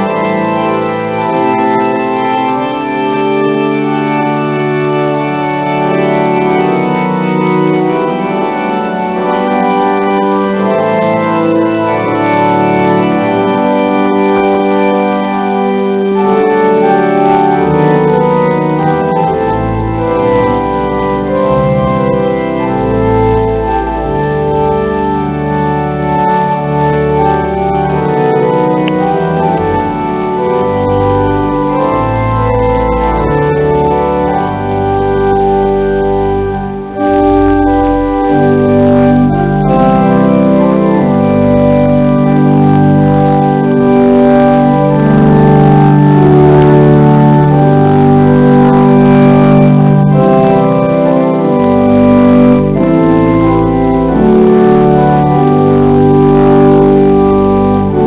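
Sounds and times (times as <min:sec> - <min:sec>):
pipe organ playing chords: 0:00.0 - 0:58.0.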